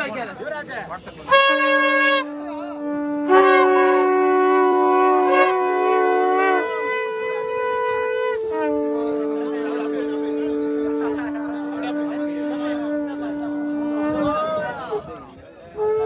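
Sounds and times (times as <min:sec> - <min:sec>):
conch shells blown: 0:01.2 - 0:14.6, 0:15.8 - 0:16.0.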